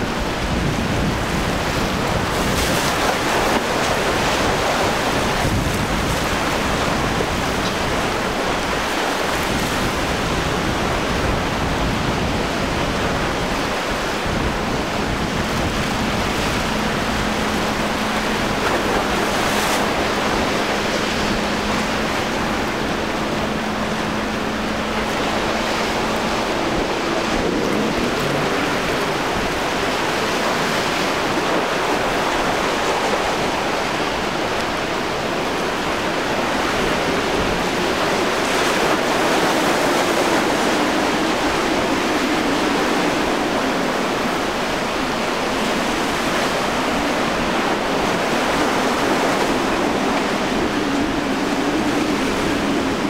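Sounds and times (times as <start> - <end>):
faint outboard motor hum: 0.0 - 53.0
surf rushing: 0.0 - 53.0
wind: 0.0 - 53.0.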